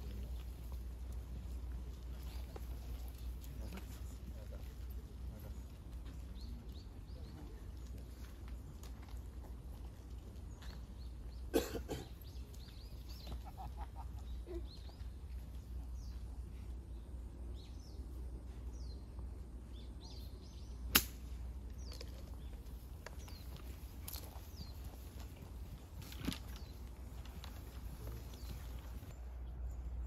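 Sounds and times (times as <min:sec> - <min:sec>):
birds chirping: 0:00.0 - 0:30.0
low outdoor rumble: 0:00.0 - 0:30.0.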